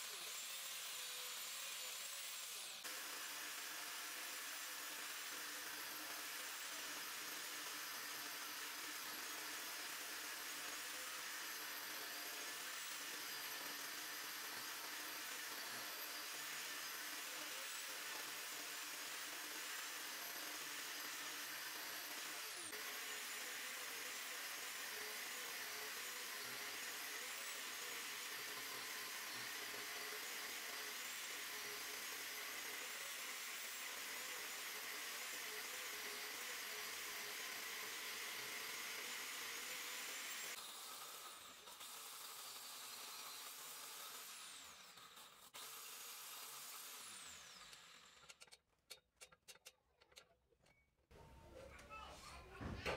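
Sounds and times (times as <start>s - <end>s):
power tool motor whining: 0.0s - 48.5s.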